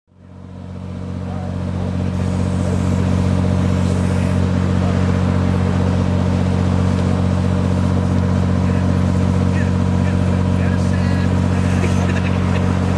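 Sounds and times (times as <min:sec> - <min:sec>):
engine running steadily: 0:00.1 - 0:12.9.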